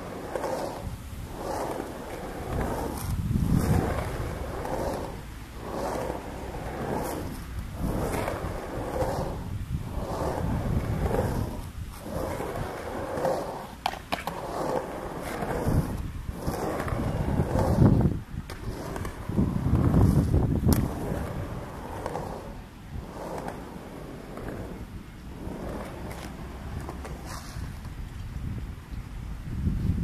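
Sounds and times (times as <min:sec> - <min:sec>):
skateboard clacks: 0:00.0 - 0:28.2
skateboard wheels rolling on concrete: 0:00.0 - 0:30.0.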